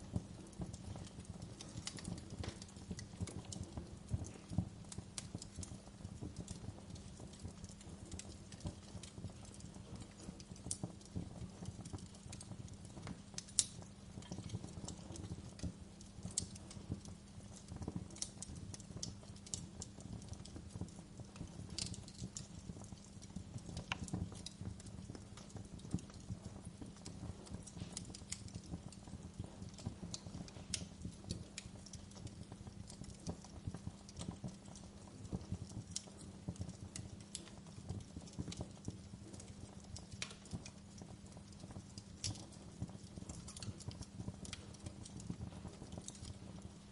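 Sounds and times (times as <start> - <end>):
log fire crackling: 0.0 - 46.9.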